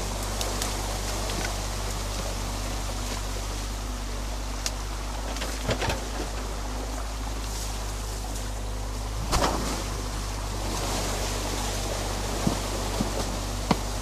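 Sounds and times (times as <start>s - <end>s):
excavator engine running: 0.0s - 14.0s
muddy water rushing: 0.0s - 14.0s.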